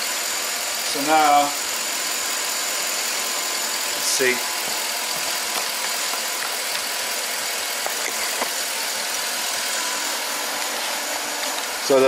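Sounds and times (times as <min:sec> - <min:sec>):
engine idling with misfire: 0:00.0 - 0:12.0.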